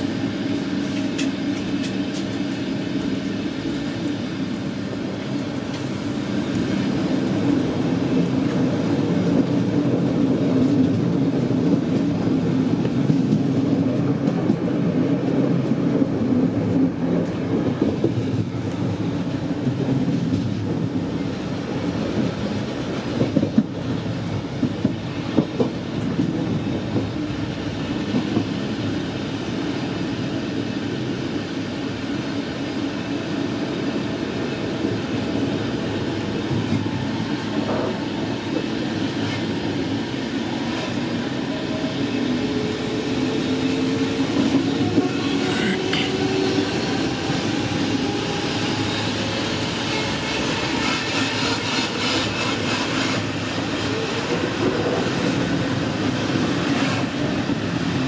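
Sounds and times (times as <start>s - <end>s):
train wheels running on track: 0.0s - 58.0s.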